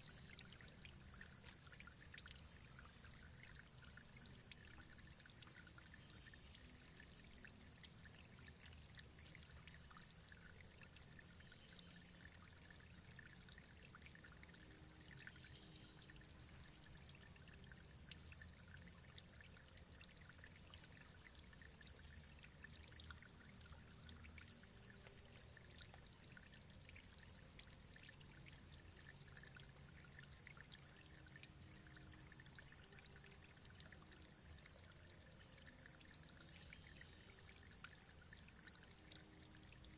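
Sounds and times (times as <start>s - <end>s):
trickling stream: 0.0s - 39.9s.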